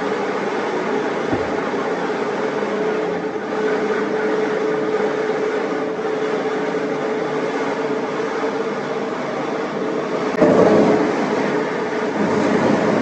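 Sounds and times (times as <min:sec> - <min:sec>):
floor grinder grinding concrete: 0:00.0 - 0:13.0.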